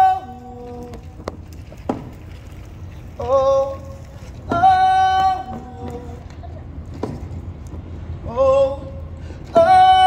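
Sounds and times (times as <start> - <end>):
low street hum: 0.0 - 10.0.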